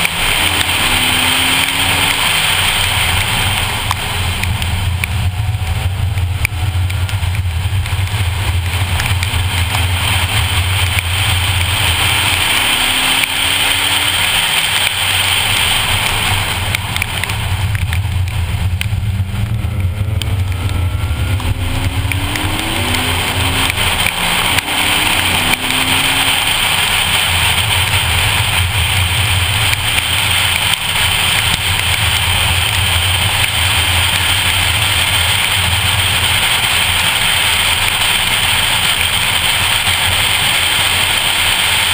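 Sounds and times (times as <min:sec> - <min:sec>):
car engine drone: 0:00.0 - 0:41.9
tyres hissing on wet road: 0:00.0 - 0:41.9.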